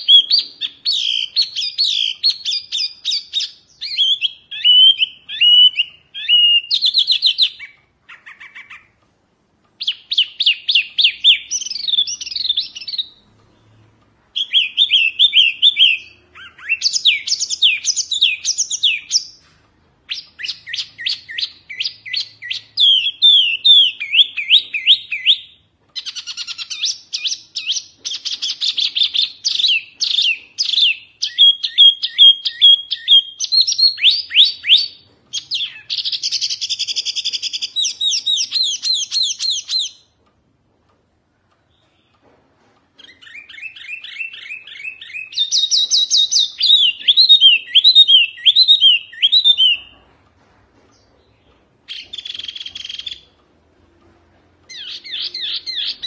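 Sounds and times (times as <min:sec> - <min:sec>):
bird singing whistles and trills: 0:00.0 - 0:08.9, 0:09.8 - 0:13.2, 0:14.4 - 0:19.4, 0:20.1 - 0:40.1, 0:43.0 - 0:50.0, 0:51.9 - 0:53.3, 0:54.7 - 0:56.0.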